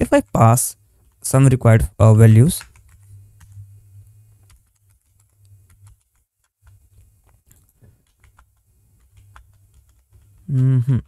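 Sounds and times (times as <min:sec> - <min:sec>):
faint keyboard typing: 0:00.0 - 0:11.0.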